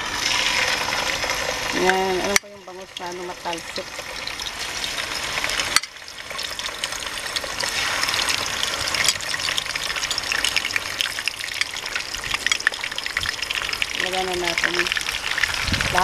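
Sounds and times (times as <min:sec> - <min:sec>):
fish frying in hot oil: 0:00.0 - 0:16.0.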